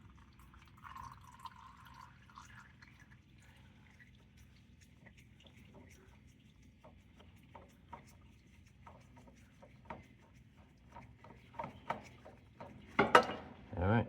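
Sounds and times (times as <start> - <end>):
oil dripping: 0.2 - 13.3.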